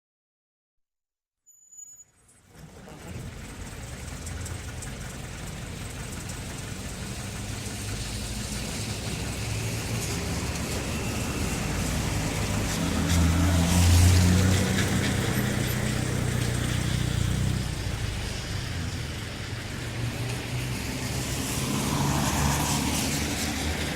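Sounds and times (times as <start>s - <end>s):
traffic engine hum: 2.2s - 23.9s
tyres hissing on wet road: 2.4s - 23.9s.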